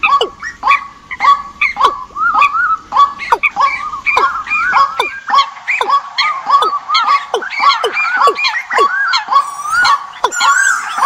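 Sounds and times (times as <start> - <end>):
recorded bird calls: 0.0 - 11.0.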